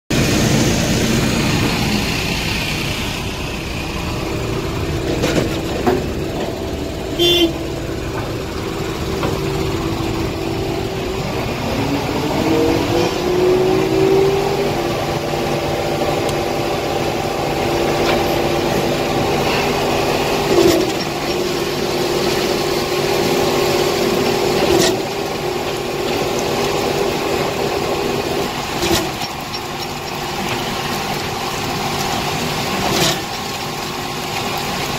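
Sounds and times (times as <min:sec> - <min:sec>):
concrete discharging into hopper: 0:00.1 - 0:34.9
diesel truck engine running: 0:00.1 - 0:34.9.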